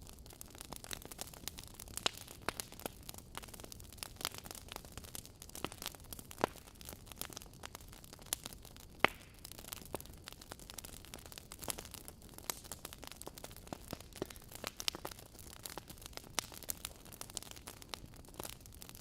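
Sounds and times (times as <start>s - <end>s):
logs crackling and popping: 0.0s - 19.0s.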